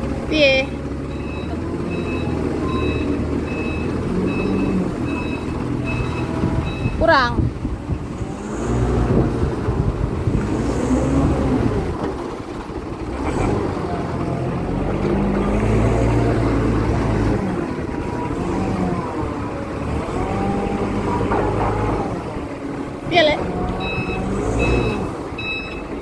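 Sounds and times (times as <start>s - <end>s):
forklift engine running: 0.0s - 26.0s.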